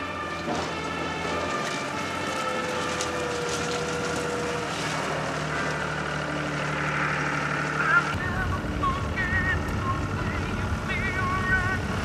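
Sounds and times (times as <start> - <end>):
diesel machinery engine hum: 0.0 - 12.0
held whine: 0.0 - 12.0.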